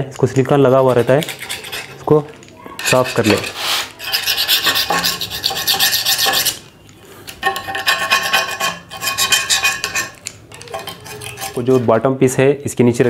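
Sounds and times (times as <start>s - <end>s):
blade scraping sealant off glass: 0.8s - 2.2s, 2.8s - 11.9s.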